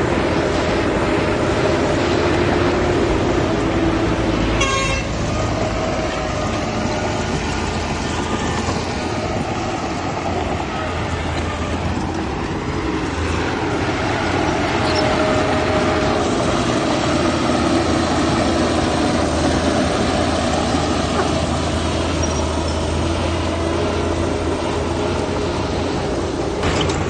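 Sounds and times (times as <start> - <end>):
heavy machinery diesel engines: 0.0 - 27.0.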